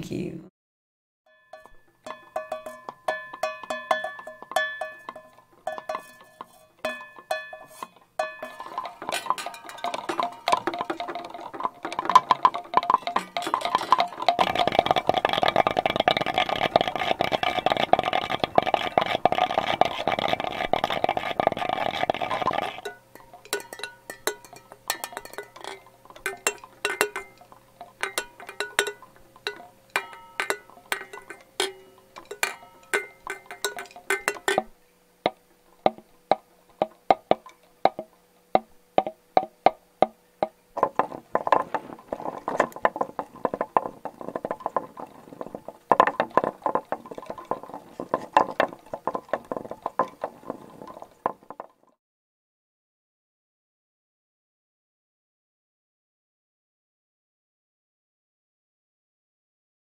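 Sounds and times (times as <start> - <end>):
plastic bottles and lids rattling: 1.6 - 51.9.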